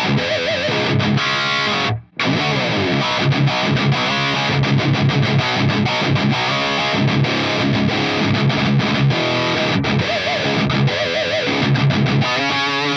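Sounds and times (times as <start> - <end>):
distorted electric guitar: 0.0 - 12.9.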